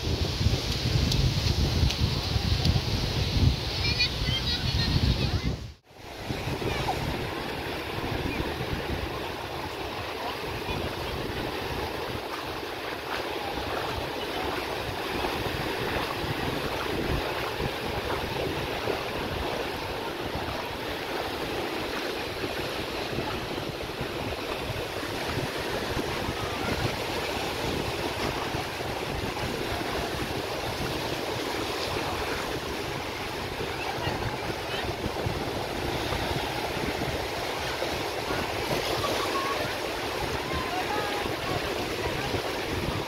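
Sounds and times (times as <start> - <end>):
surf washing onto beach: 0.0 - 43.0
wind buffeting microphone: 0.0 - 43.0.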